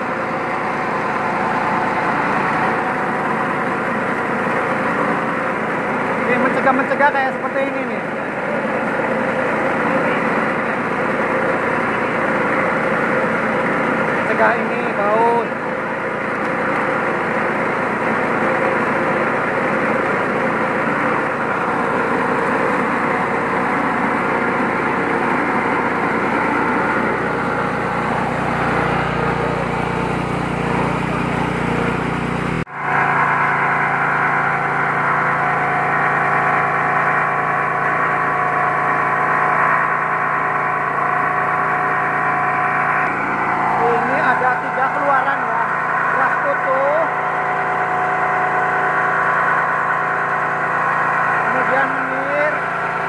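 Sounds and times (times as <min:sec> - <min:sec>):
rice mill running: 0:00.0 - 0:53.0.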